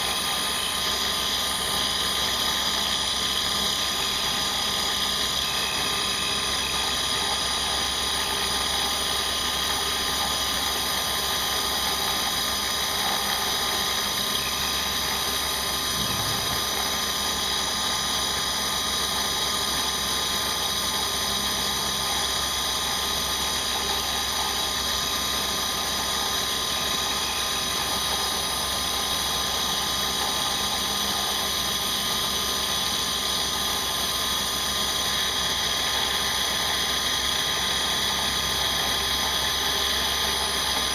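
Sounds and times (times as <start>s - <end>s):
milling machine spindle whine: 0.0s - 40.9s.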